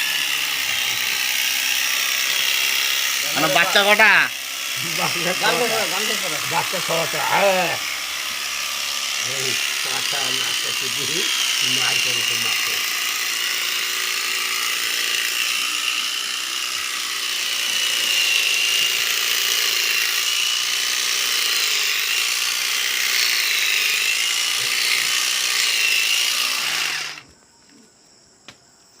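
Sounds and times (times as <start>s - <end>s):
electric shearing clippers buzzing: 0.0s - 27.3s.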